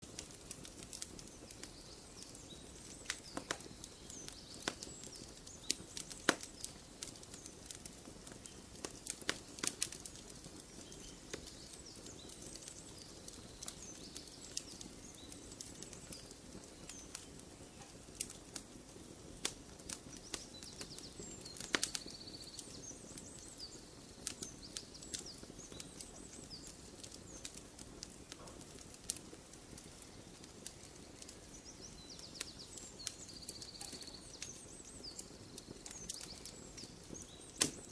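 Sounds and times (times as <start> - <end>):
campfire crackling and popping: 0.0 - 37.9
small birds chirping: 0.0 - 37.9.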